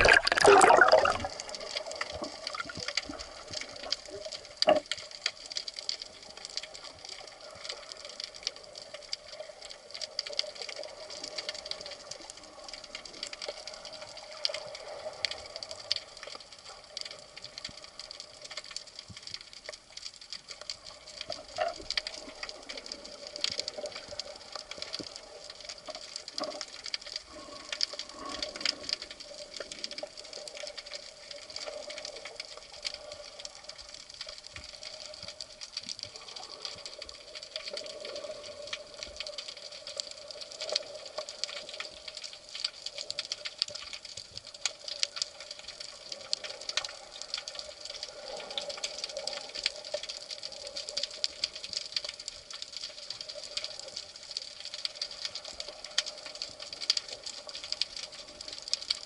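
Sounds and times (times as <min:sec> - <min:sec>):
underwater crackle of clicks: 0:00.0 - 0:59.0.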